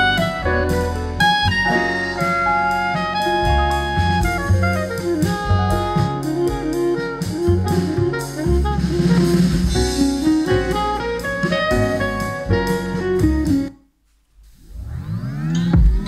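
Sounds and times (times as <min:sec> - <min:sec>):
jazz with saxophone and drums: 0:00.0 - 0:13.8.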